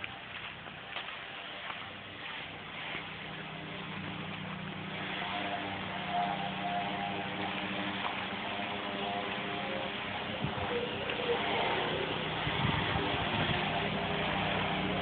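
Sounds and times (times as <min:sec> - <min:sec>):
engine humming with hiss: 0:00.0 - 0:15.0.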